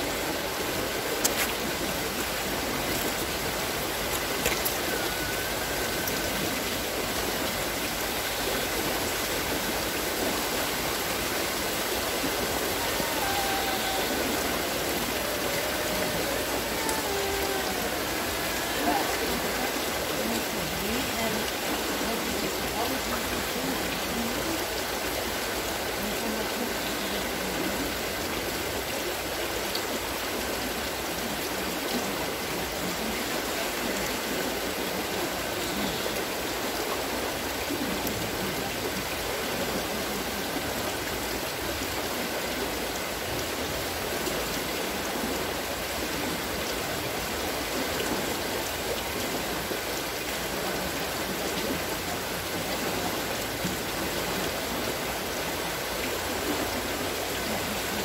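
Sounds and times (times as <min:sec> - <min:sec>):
water wheel splashing: 0:00.0 - 0:58.0.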